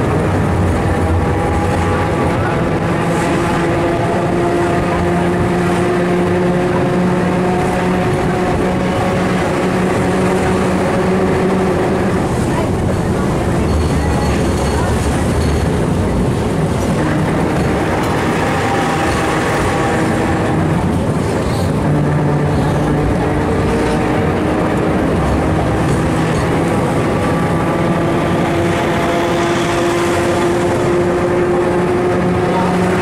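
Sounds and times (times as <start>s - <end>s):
tram motor whine: 0.0s - 33.0s
tram wheels rumbling on rails: 0.0s - 33.0s.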